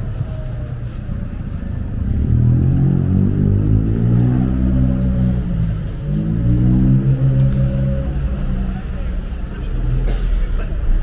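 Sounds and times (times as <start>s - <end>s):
vehicle engine accelerating: 0.0s - 10.1s.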